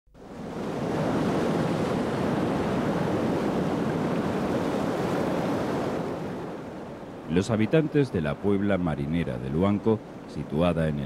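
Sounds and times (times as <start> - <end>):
sea waves washing on shore: 0.2 - 11.0.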